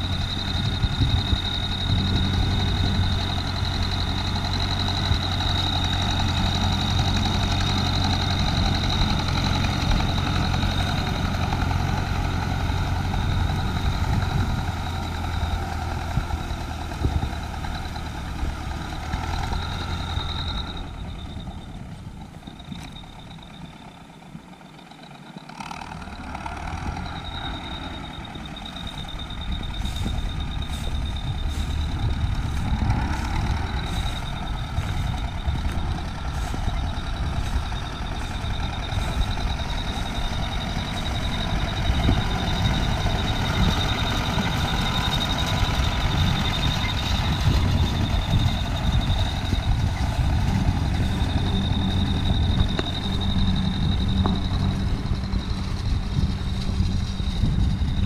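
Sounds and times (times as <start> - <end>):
high-pitched whine: 0.0 - 25.4, 26.4 - 58.0
tractor engine running: 0.0 - 58.0.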